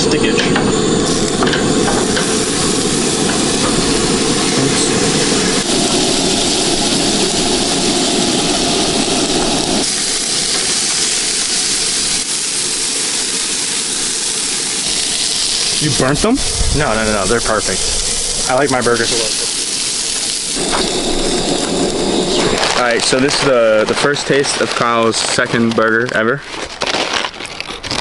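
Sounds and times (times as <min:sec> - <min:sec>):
gas stove burner roaring hiss: 0:00.0 - 0:26.4
burgers frying: 0:00.0 - 0:28.0.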